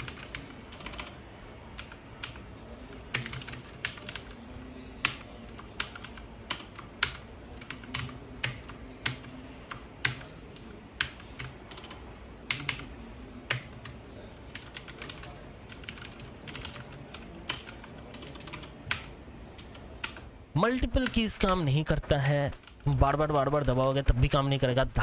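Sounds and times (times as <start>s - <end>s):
computer keyboard typing: 0.0s - 24.2s.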